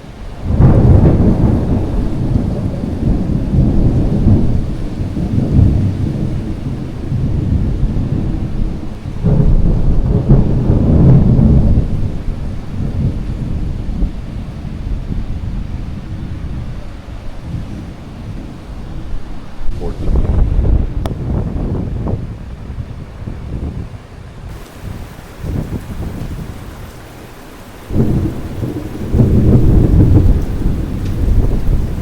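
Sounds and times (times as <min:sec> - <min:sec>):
thunder rumbling: 0:00.0 - 0:32.0.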